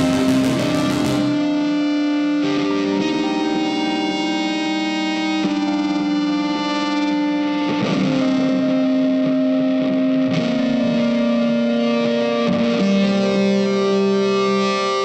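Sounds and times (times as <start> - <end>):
music with long held notes: 0.0 - 15.0.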